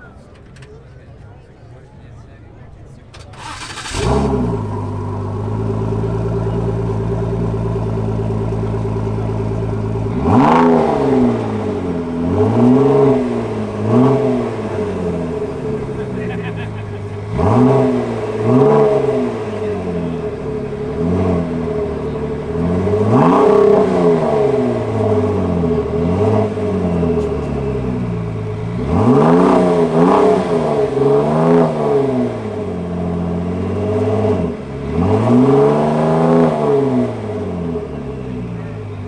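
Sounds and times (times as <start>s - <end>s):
car engine idling and revving: 3.2s - 39.0s.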